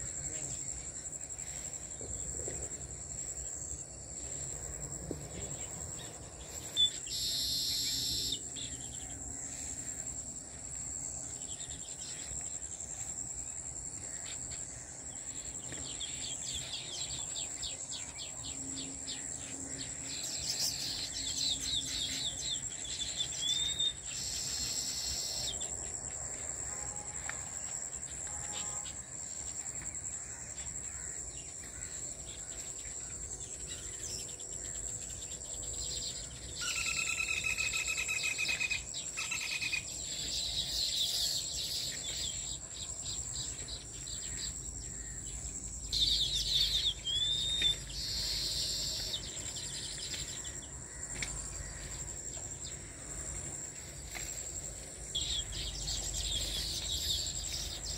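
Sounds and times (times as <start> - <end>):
high-pitched insect trill: 0.0 - 57.9.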